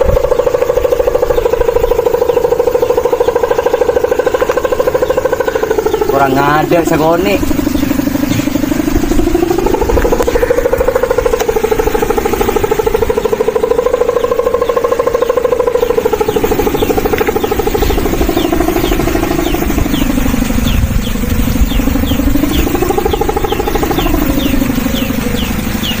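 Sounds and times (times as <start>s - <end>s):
kite hummer droning: 0.0s - 26.0s.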